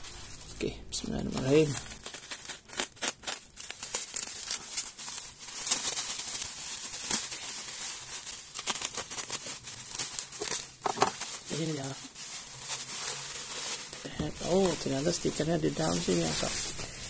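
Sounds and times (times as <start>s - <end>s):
bubble wrap crinkling: 0.0s - 17.0s
box cutter slitting bubble wrap: 1.2s - 17.0s.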